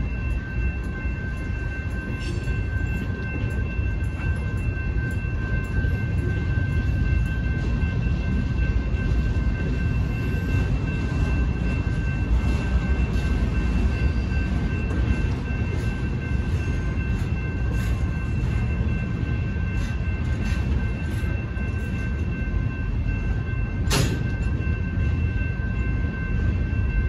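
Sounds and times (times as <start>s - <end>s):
high-pitched ringing tone: 0.0s - 27.0s
train wheels rumbling on rails: 0.0s - 27.0s.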